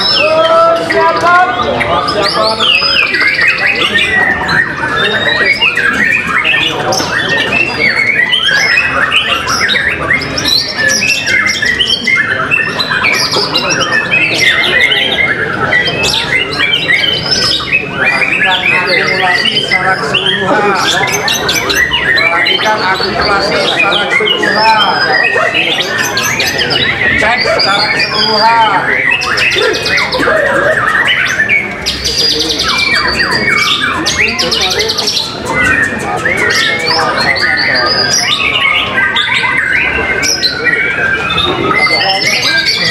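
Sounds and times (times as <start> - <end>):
birds singing whistled phrases: 0.0 - 42.9.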